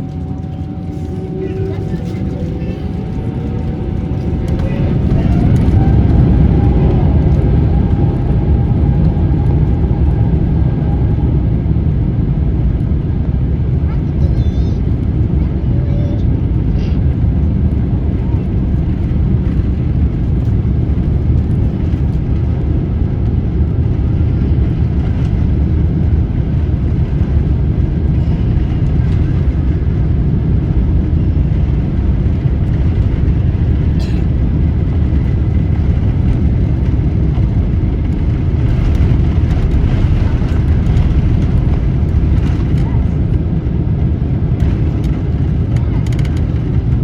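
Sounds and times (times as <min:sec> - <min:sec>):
jet cabin engine rumble: 0:00.0 - 0:47.0.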